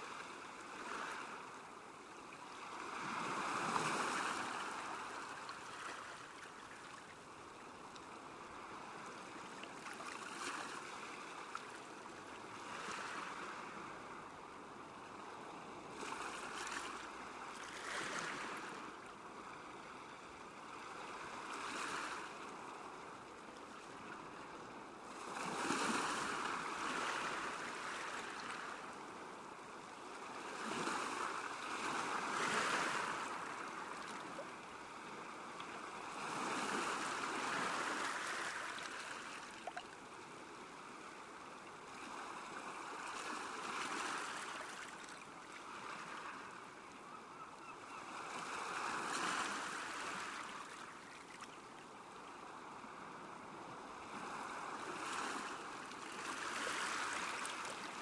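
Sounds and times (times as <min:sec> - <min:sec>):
small waves lapping: 0:00.0 - 0:14.1, 0:15.8 - 0:20.0, 0:20.6 - 0:58.0.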